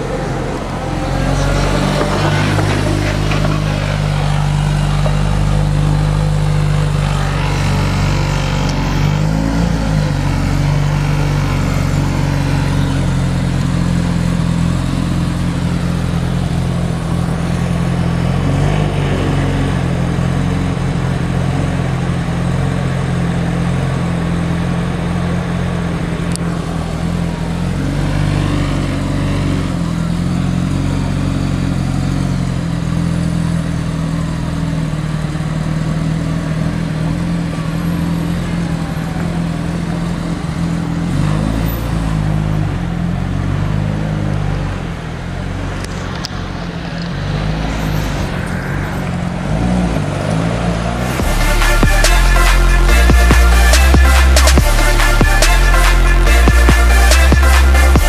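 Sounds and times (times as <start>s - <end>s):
car engine idling: 0.0s - 58.0s
city traffic noise: 0.0s - 58.0s.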